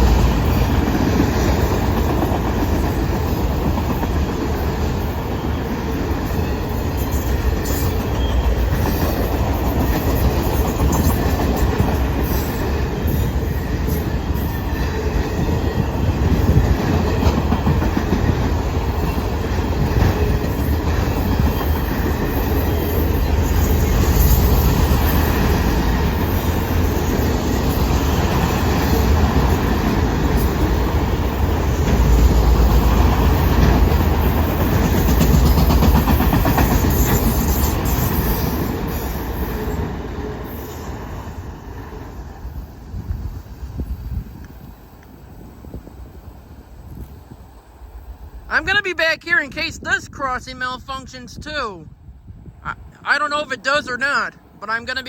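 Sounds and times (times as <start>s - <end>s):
freight train wheels rumbling on rail: 0.0s - 51.0s.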